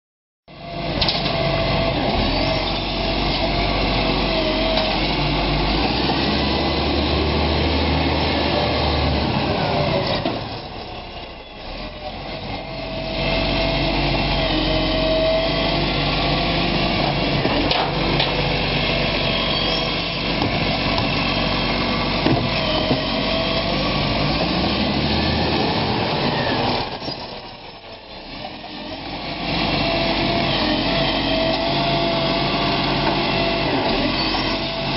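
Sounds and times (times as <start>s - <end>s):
diesel engine running: 0.5s - 34.9s.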